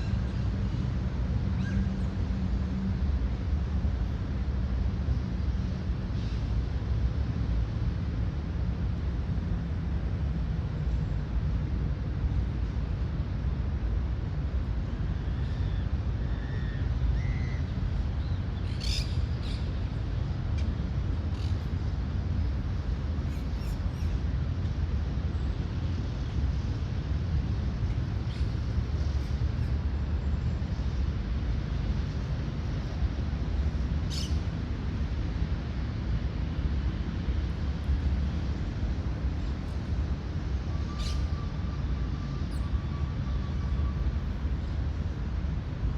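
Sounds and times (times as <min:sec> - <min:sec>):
steady low rumble: 0:02.0 - 0:45.9.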